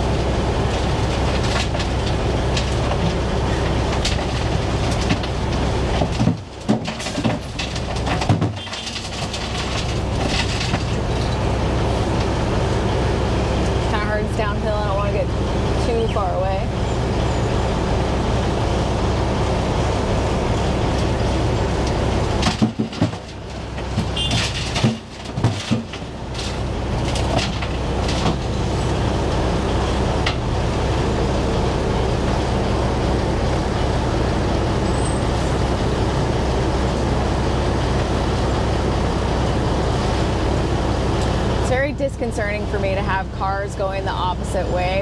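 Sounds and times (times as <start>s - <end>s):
heavy diesel machinery drone: 0.0s - 45.0s.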